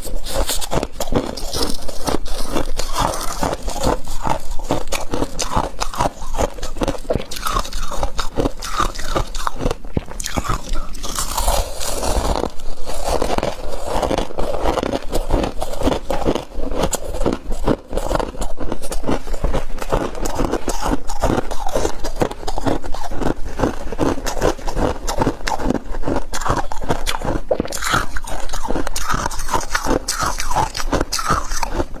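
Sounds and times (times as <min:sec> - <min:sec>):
frost being chewed: 0:00.0 - 0:32.0.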